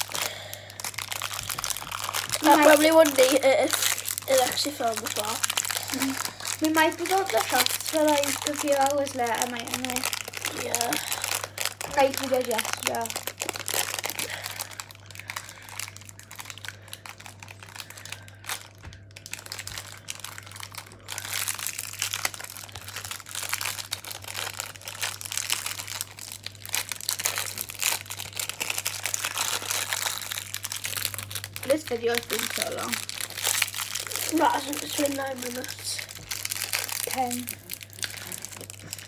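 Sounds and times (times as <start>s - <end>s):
plastic wrapper crinkling: 0.0s - 39.0s.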